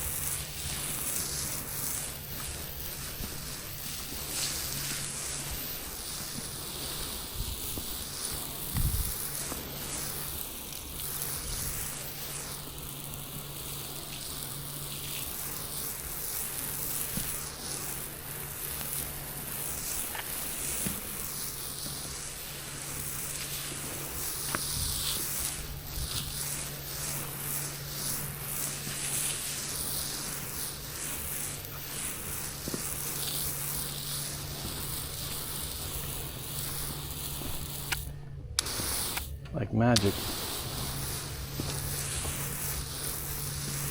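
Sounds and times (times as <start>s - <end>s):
spray hissing onto concrete: 0.0s - 43.9s
spray rig humming: 0.0s - 43.9s.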